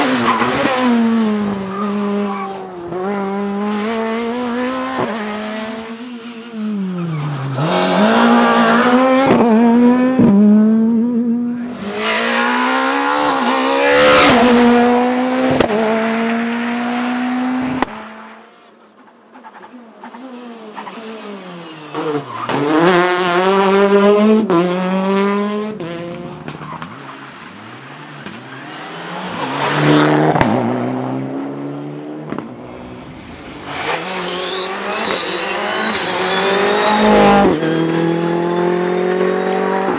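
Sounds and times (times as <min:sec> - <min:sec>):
rally cars passing at full throttle: 0:00.0 - 0:39.9.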